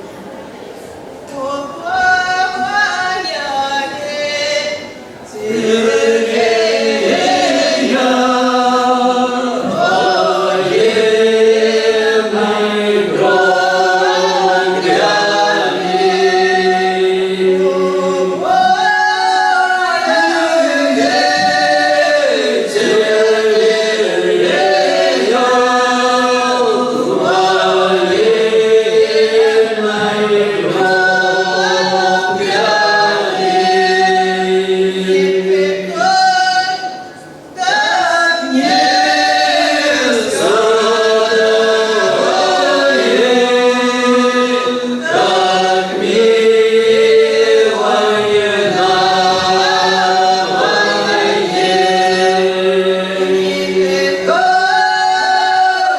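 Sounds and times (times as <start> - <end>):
folk vocal ensemble singing: 0.9 - 55.9.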